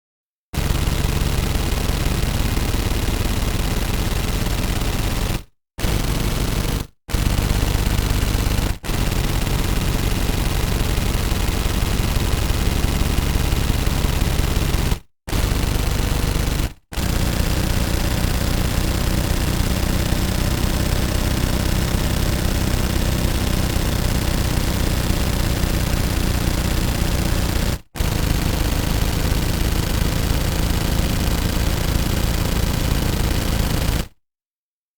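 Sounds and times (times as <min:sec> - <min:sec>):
automatic gun firing: 0:00.6 - 0:34.1.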